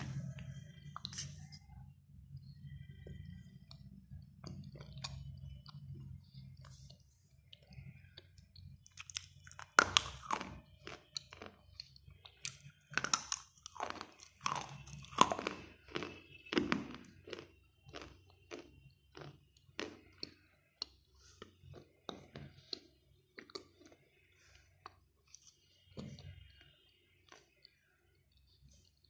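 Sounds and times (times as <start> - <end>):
clay crunching when chewed: 2.7 - 29.0.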